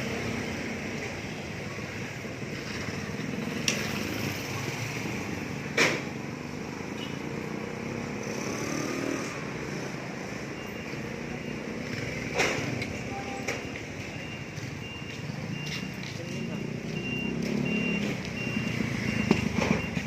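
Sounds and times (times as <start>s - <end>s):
street traffic noise: 0.0s - 20.0s.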